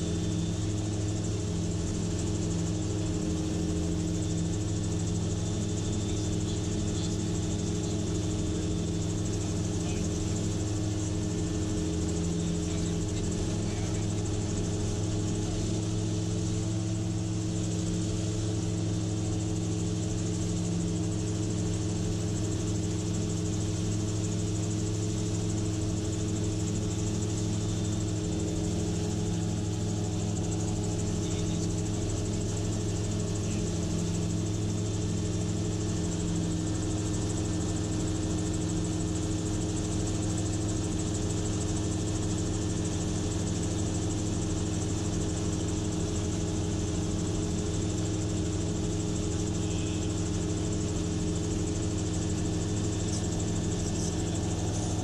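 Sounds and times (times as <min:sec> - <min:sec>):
gyrocopter engine drone: 0:00.0 - 0:55.0.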